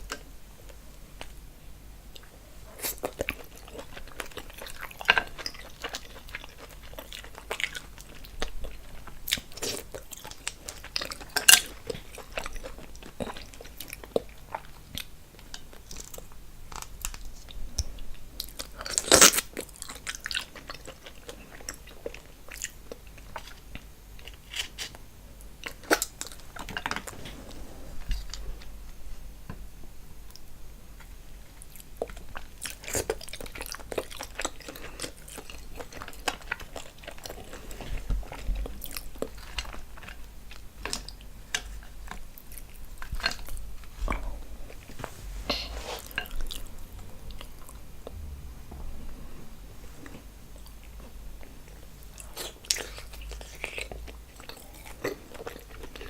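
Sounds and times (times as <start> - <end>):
chewing and crunching: 2.1 - 28.7, 30.3 - 56.0.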